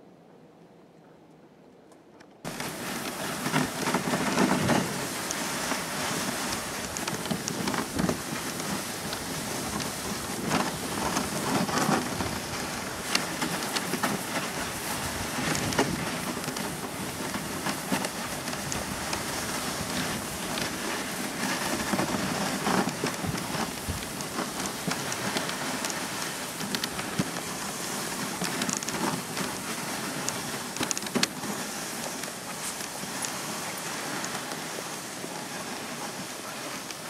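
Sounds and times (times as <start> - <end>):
sharp crackles and clicks: 2.5 - 37.0
sled runners hissing over snow: 2.5 - 37.0.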